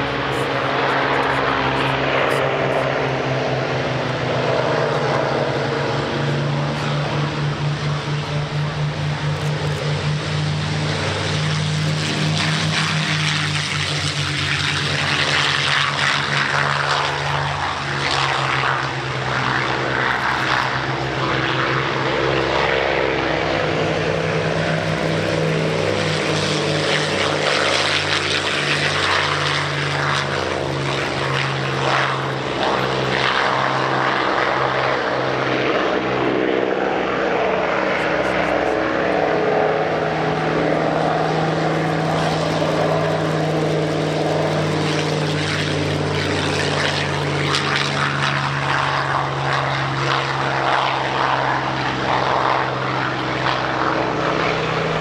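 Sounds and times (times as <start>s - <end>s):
propeller aircraft engines droning: 0.0s - 55.0s.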